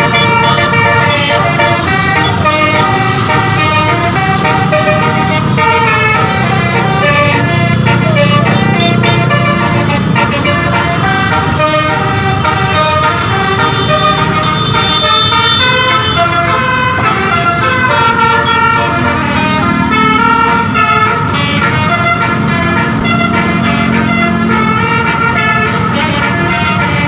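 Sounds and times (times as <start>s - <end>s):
bus horn playing a tune: 0.0s - 27.0s.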